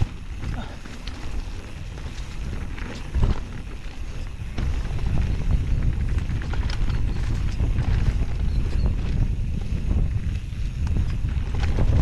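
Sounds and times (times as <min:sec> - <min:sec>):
bike knocking and rattling: 0:00.0 - 0:12.0
bike tyres rolling over leaves: 0:00.0 - 0:12.0
wind rumble on microphone: 0:00.0 - 0:12.0.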